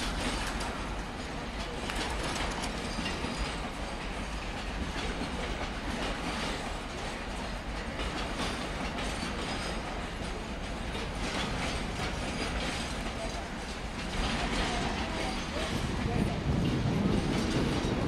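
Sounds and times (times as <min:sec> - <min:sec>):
train wheels rumbling on rails: 0:00.0 - 0:18.0
wheels clicking over rail joints: 0:00.0 - 0:18.0.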